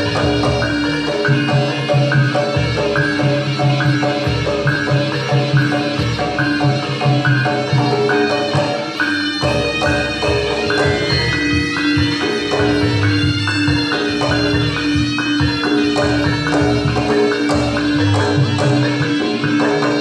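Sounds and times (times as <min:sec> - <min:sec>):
gamelan music: 0:00.0 - 0:20.0.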